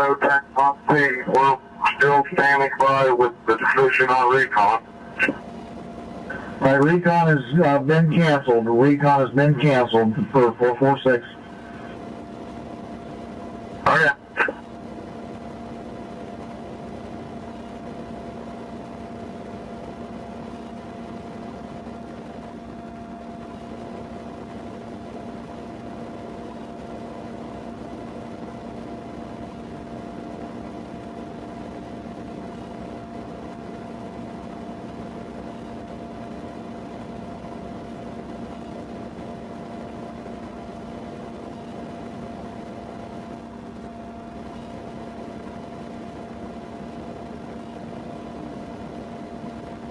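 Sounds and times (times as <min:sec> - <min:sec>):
mechanical hum with faint whine: 0:00.0 - 0:49.9.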